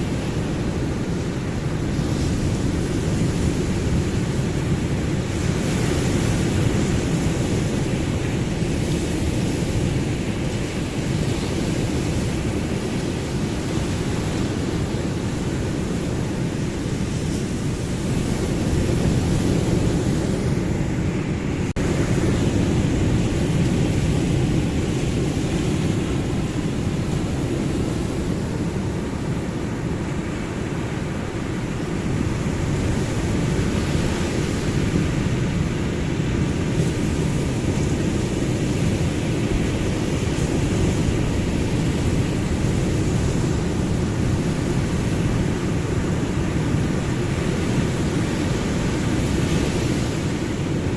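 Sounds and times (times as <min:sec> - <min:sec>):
ocean surf: 0:00.0 - 0:50.9.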